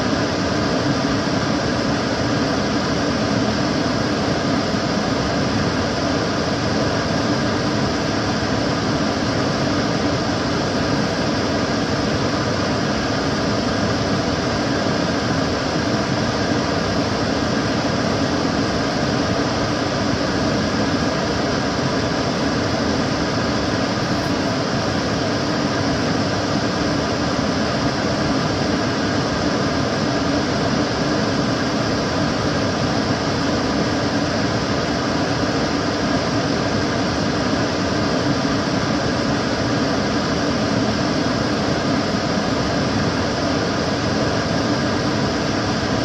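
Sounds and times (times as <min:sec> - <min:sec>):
extractor fan running: 0:00.0 - 0:46.0.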